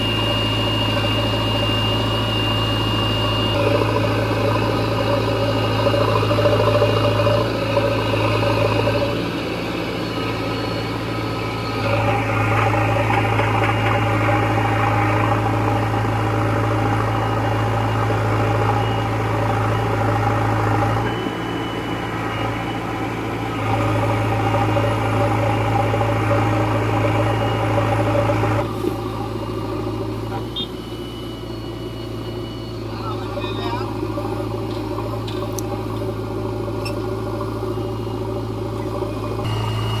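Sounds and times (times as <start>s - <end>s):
backhoe diesel engine running: 0.0s - 40.0s.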